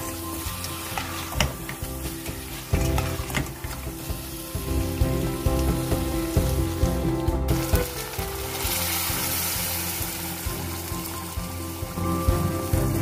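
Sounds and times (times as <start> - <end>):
background music: 0.0 - 13.0
food sizzling in a pot: 0.0 - 13.0.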